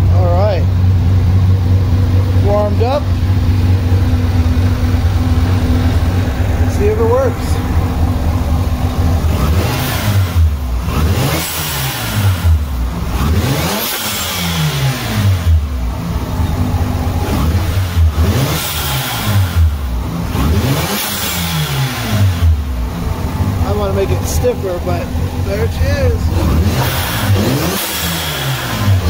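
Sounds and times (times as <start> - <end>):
rotary engine revving: 0.0 - 29.0.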